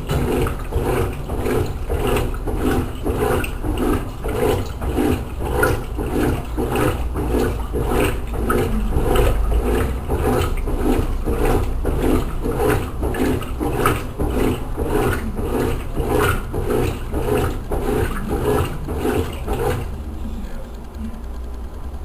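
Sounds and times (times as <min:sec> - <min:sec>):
steady hum: 0:00.0 - 0:22.0
washing machine agitating: 0:00.0 - 0:22.0.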